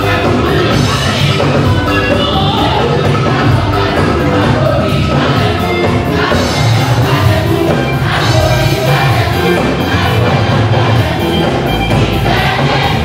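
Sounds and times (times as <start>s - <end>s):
amplified music with heavy bass: 0.0s - 13.0s
congregation and choir singing: 0.0s - 13.0s.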